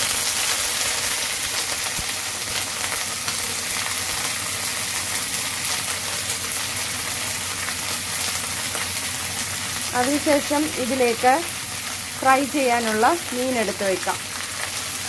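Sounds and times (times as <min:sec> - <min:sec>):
leaves sizzling in hot oil: 0:00.0 - 0:15.0.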